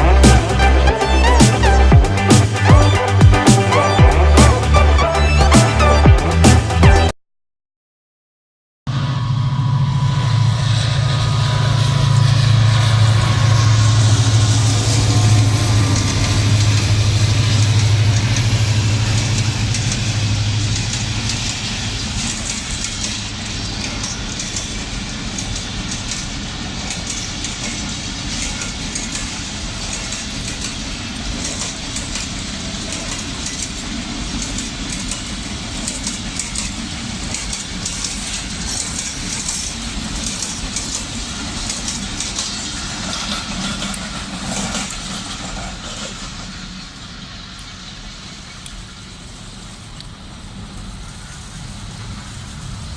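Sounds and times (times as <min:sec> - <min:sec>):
diesel locomotive engine hum: 0:00.0 - 0:07.1, 0:08.9 - 0:52.9
train wheels clattering on rails: 0:10.1 - 0:52.9.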